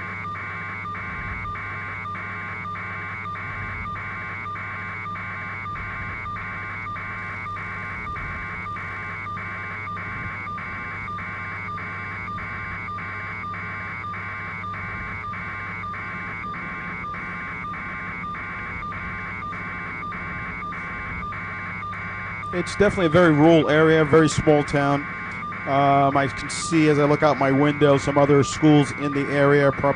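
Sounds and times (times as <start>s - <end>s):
pulsing electronic buzz: 0.0s - 29.9s
steady low hum: 0.0s - 29.9s.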